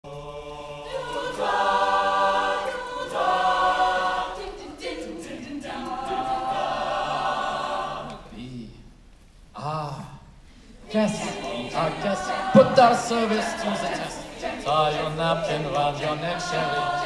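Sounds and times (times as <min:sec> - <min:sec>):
a cappella choir singing: 0:00.0 - 0:08.4, 0:10.6 - 0:17.0.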